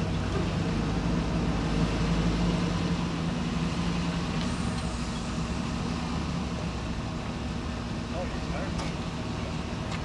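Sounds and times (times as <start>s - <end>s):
truck engine at low revs: 0.0s - 10.0s.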